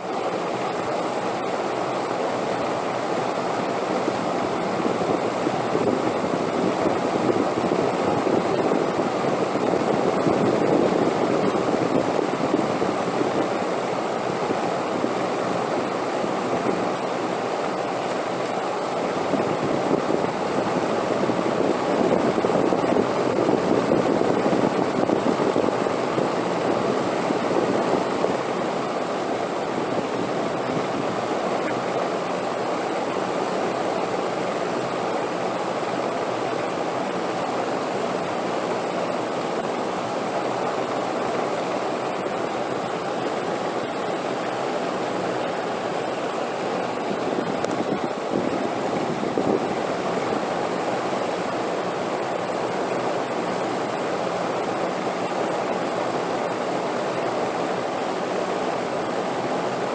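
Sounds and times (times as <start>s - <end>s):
rushing wind gusts: 3.7s - 18.0s, 18.8s - 40.1s, 40.8s - 59.9s.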